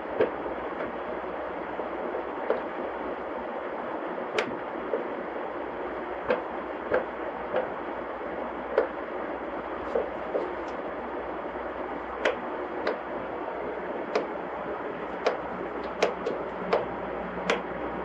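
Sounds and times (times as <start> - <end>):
ceiling fan whirring: 0.0 - 18.0.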